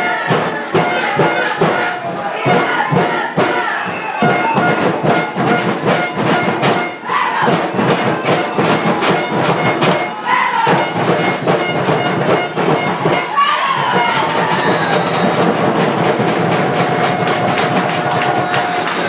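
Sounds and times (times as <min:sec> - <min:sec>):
crowd: 0:00.0 - 0:19.0
loud music with drum beat: 0:00.0 - 0:19.0.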